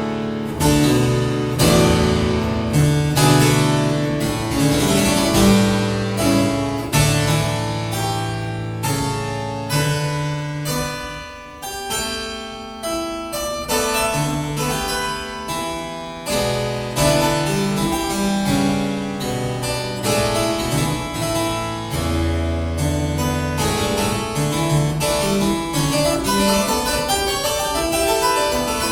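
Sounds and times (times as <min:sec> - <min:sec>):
solo harpsichord playing: 0:00.0 - 0:28.9.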